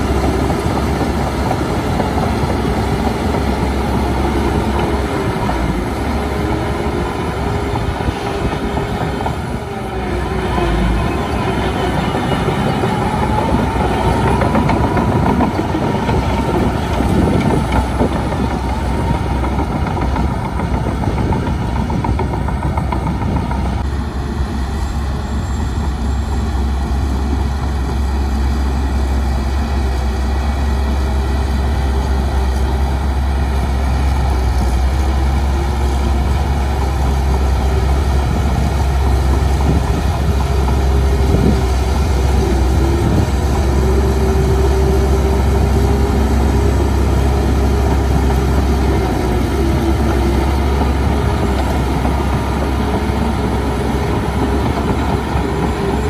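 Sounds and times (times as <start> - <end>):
bulldozer diesel engine: 0.0 - 56.0
steel tracks clattering: 0.0 - 56.0.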